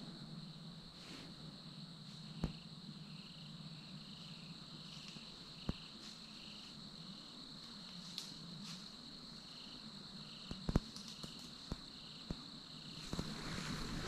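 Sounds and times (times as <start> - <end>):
lower insect chirp: 0.0 - 14.0
night insects trilling: 0.0 - 14.0.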